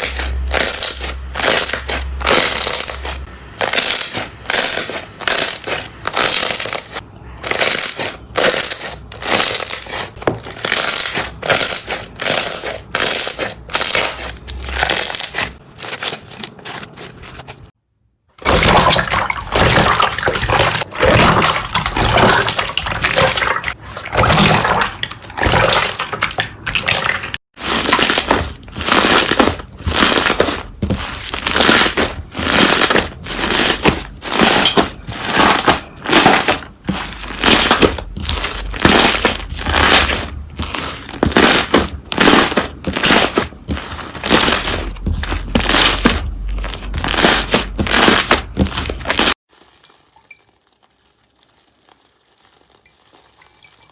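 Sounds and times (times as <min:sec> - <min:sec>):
slime crackling and squishing: 0:00.0 - 0:17.8, 0:18.4 - 0:53.9.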